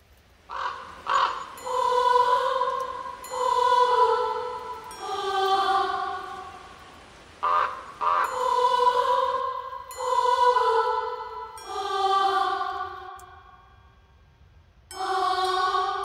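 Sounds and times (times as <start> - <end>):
choir-like held notes music: 0.5 - 16.0.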